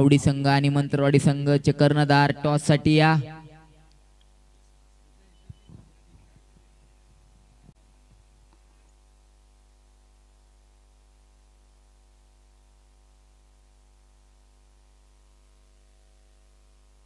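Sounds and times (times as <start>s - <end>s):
faint electrical mains hum: 0.0s - 17.0s.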